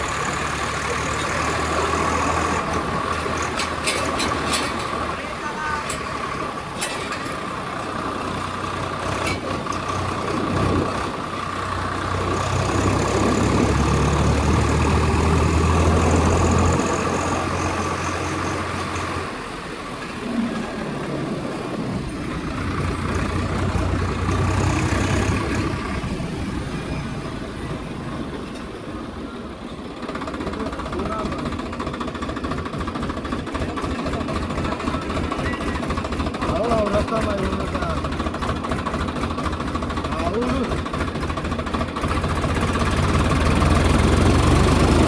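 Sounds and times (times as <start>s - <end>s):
tractor engine rumbling: 0.0s - 45.0s.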